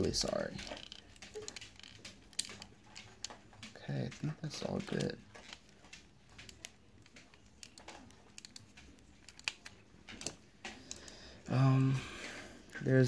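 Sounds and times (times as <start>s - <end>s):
plastic parts clicking and tapping: 0.0s - 12.0s.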